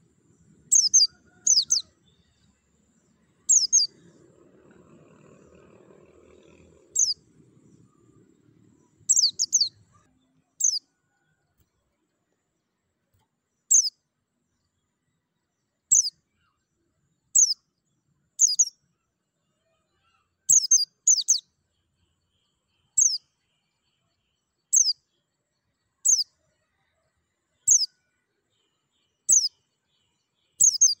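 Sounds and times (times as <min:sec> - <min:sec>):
bird chirping: 0:00.0 - 0:19.0, 0:19.6 - 0:26.4, 0:27.5 - 0:31.0.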